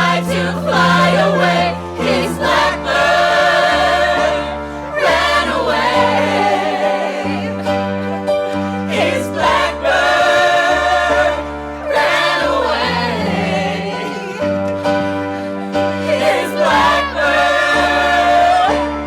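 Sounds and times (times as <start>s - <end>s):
group of voices singing: 0.0s - 19.0s
instrumental accompaniment: 0.0s - 19.0s.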